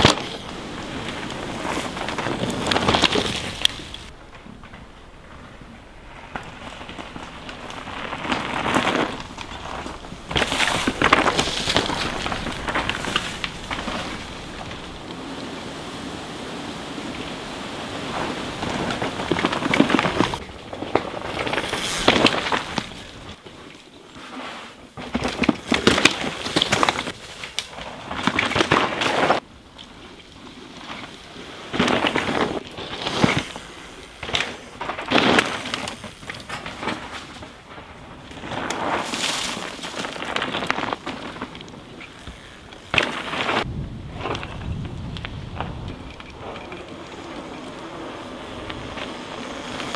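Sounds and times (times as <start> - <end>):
bike tyres skidding on dirt: 0.0 - 49.9.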